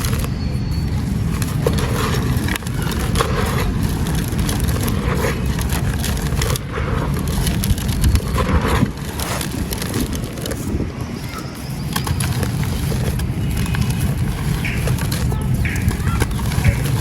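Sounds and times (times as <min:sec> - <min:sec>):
gritty crunching of crumbling chunks: 0:00.0 - 0:17.0.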